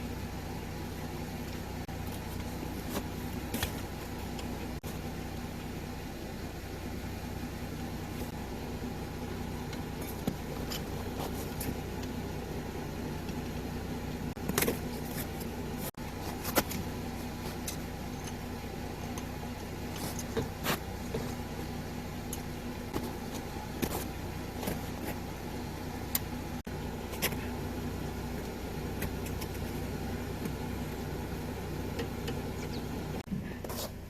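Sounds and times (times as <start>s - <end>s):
engine idling hum: 0.0s - 34.0s.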